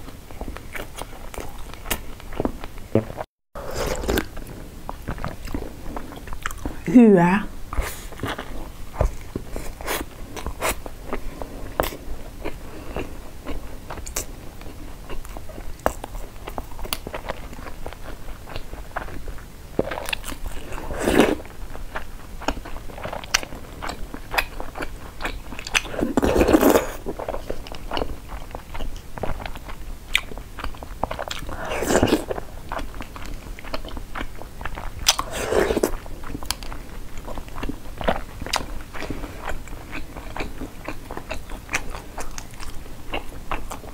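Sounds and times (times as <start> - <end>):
wet chewing mouth sounds: 0.0 - 6.8, 7.7 - 43.9.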